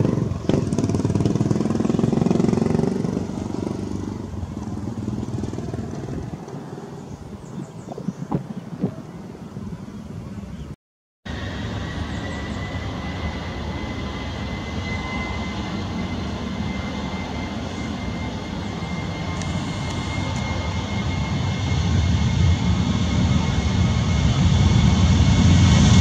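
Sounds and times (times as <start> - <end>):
faint high engine whine: 0.0 - 26.0
jet engines rushing: 0.0 - 26.0.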